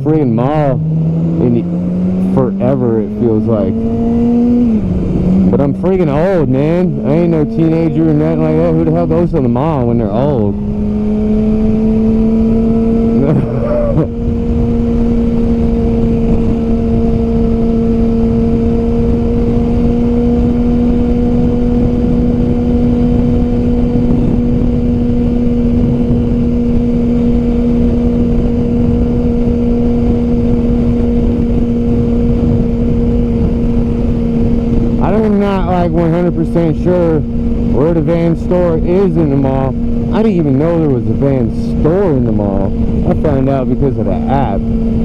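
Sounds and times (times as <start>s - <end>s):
motorcycle engine at high rpm: 0.0s - 45.0s
wind rush: 0.6s - 45.0s.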